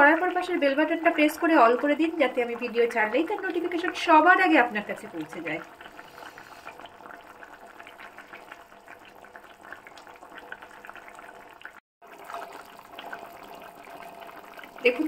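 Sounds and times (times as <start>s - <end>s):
curry simmering with bubbling crackle: 0.0s - 15.0s.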